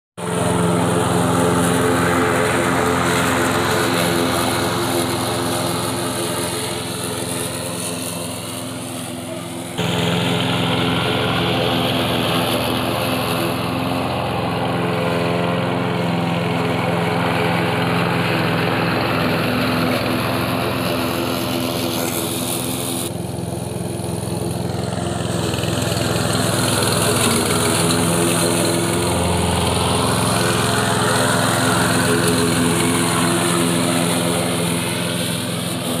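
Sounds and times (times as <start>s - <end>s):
blade cutting grass: 0.2s - 36.0s
lawn mower engine running: 0.2s - 36.0s.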